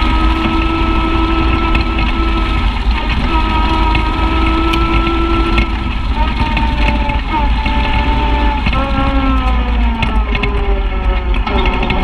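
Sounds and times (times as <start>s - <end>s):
low rumble: 0.0s - 12.0s
utility vehicle engine running: 0.0s - 12.0s.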